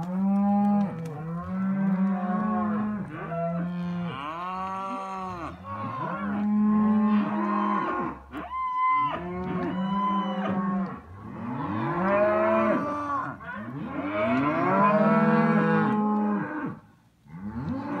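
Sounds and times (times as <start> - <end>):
young cattle mooing: 0.2 - 16.8.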